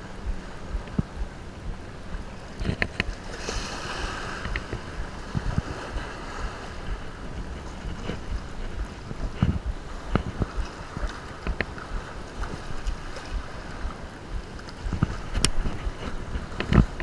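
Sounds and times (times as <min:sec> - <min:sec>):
small waves lapping: 0:00.0 - 0:17.0
wind buffeting microphone: 0:00.0 - 0:17.0.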